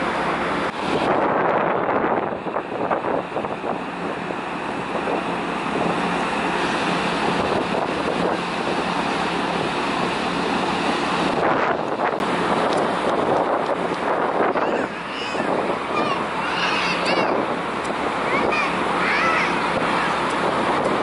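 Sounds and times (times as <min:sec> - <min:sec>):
wind and water rushing: 0:00.0 - 0:21.0
wind buffeting microphone: 0:00.0 - 0:21.0.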